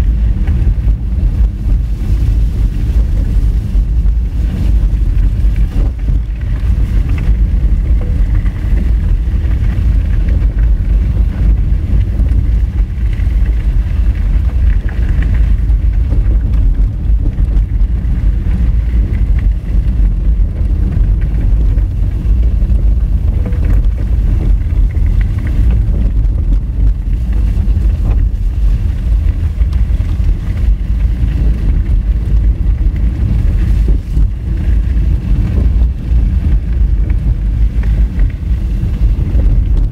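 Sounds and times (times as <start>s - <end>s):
tyres rumbling on gravel: 0.0s - 39.9s
wind noise on microphone: 0.0s - 39.9s.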